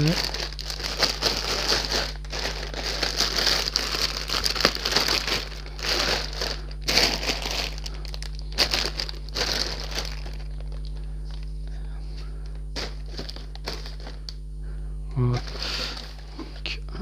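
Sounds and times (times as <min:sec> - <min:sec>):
plastic bags crinkling: 0:00.0 - 0:11.6, 0:12.5 - 0:14.4, 0:15.4 - 0:16.5.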